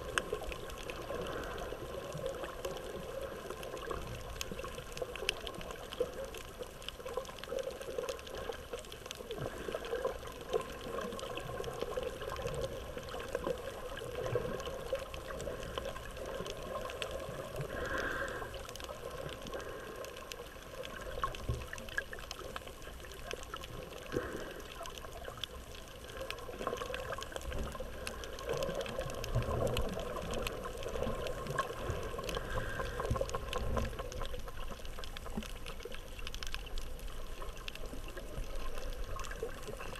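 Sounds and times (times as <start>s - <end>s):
muffled underwater wash: 0.0s - 39.9s
small underwater clicks: 0.0s - 39.9s.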